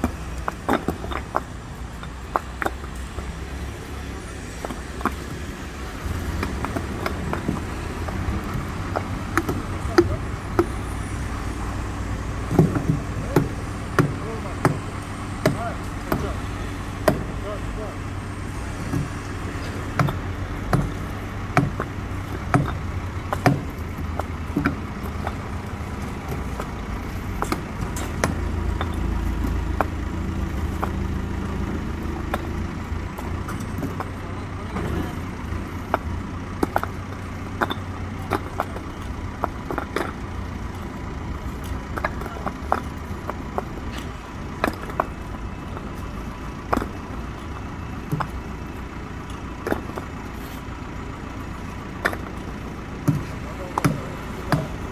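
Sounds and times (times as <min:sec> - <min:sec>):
diesel engine running: 0:00.0 - 0:54.9
paving stones clacking: 0:00.0 - 0:54.9.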